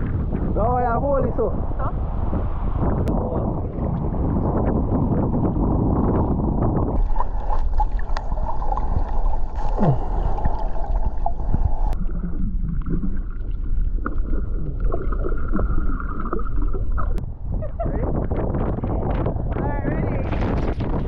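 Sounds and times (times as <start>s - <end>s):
muffled water sloshing and bubbling: 0.0s - 0.6s, 1.5s - 21.0s.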